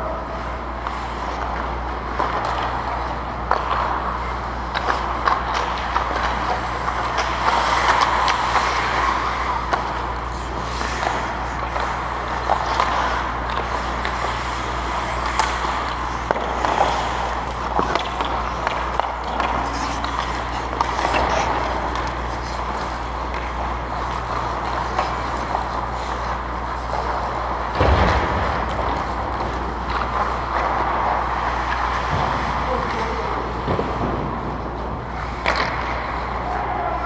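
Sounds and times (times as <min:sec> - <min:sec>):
hockey sticks and puck clacking: 0:00.0 - 0:37.0
low rink hum: 0:00.0 - 0:37.0
skate blades scraping ice: 0:00.1 - 0:37.0.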